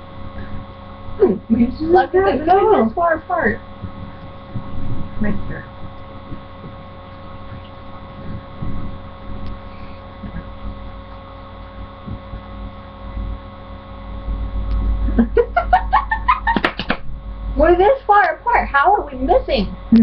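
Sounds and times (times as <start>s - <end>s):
electrical hum: 0.0s - 20.0s
low rumbling: 0.0s - 20.0s.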